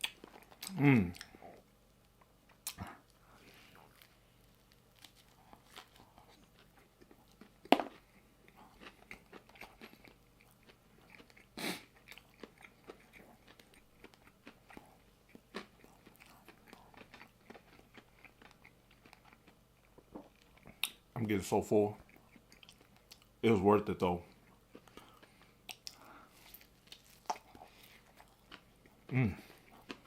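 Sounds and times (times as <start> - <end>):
person chewing food: 0.0 - 21.0, 22.0 - 23.4, 24.2 - 30.0.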